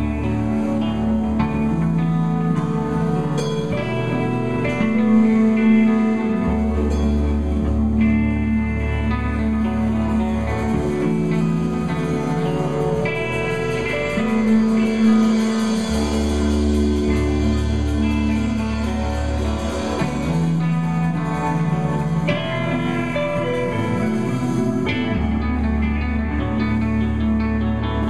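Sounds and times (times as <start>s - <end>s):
bass line: 0.0s - 28.0s
drum kit: 0.0s - 28.0s
electric guitar chords: 0.0s - 28.0s.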